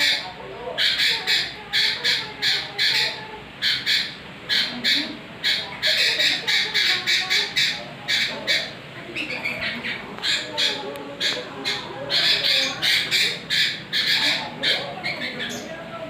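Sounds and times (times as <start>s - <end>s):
bulbul calling: 0.0s - 15.8s.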